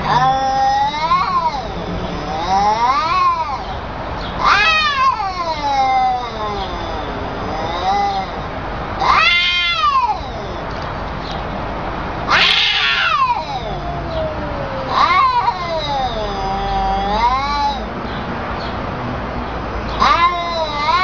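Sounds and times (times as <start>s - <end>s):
cats yowling: 0.0s - 10.9s, 12.2s - 18.2s, 19.9s - 21.0s.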